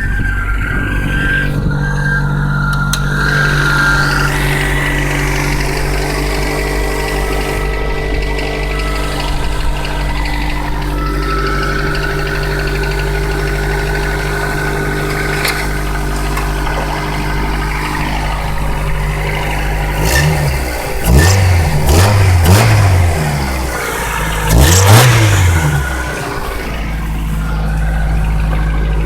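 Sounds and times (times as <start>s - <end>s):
engine idling and revving: 0.0s - 29.0s.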